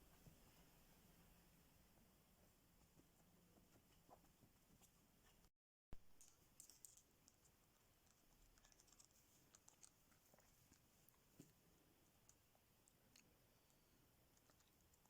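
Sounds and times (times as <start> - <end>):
faint small clicks and taps: 2.8 - 15.0.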